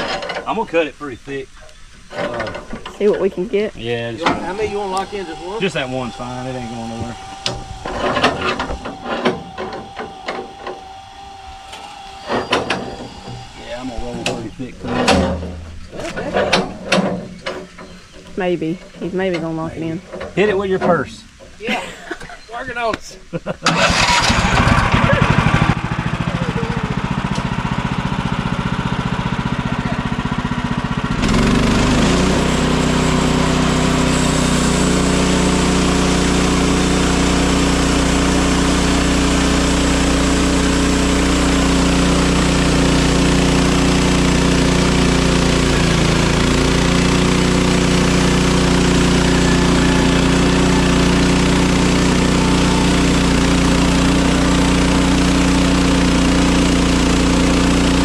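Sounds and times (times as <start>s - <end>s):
sawmill engine running: 2.1s - 20.8s, 23.7s - 58.0s.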